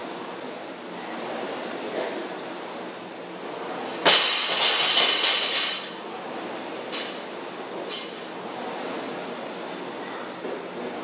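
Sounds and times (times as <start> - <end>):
rowing machine flywheel whirring: 0.0 - 11.0.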